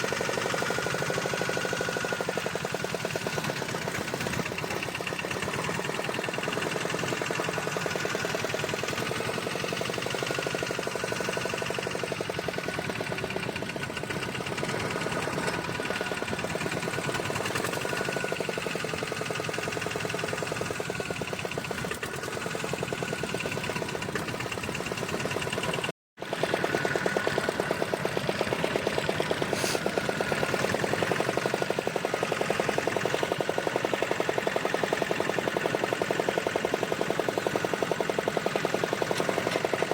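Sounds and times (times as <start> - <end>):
boat engine knocking: 0.0 - 39.9.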